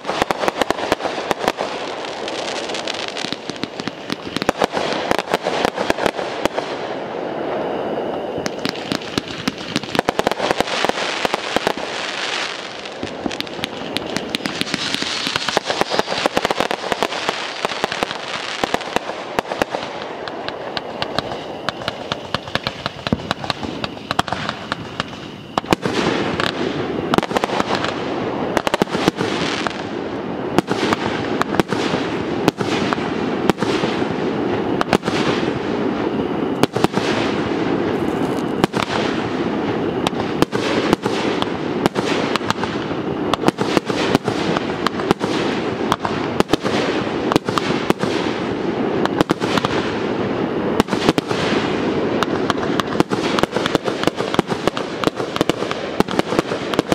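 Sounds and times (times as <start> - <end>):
fireworks banging: 0.0 - 56.9.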